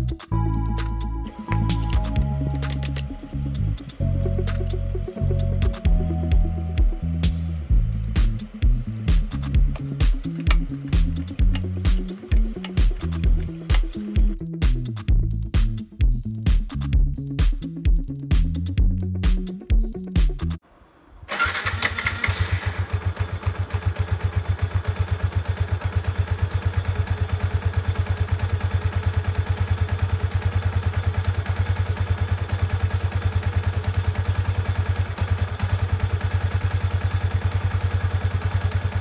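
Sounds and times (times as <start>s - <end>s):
motorcycle engine starting and idling: 0.0s - 15.7s, 21.2s - 39.0s.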